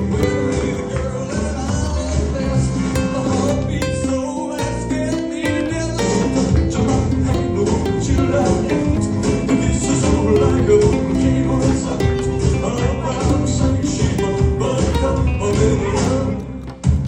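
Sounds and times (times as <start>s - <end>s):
lively music with guitar and beat: 0.0s - 17.0s.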